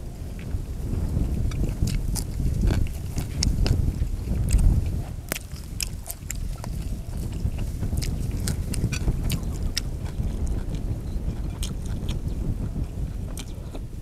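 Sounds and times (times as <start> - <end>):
close-up chewing: 0.4 - 14.0.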